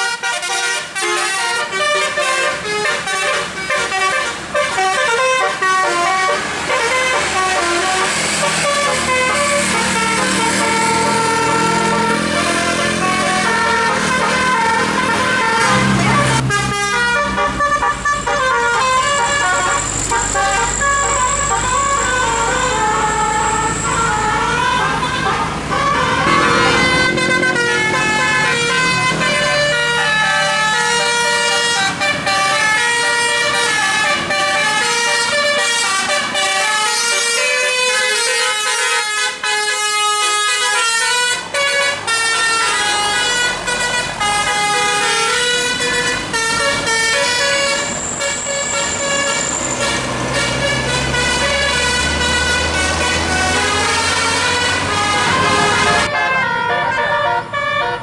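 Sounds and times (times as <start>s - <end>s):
musical air horn melody: 0.0s - 58.0s
bus engine low rumble: 1.4s - 38.4s, 39.5s - 58.0s.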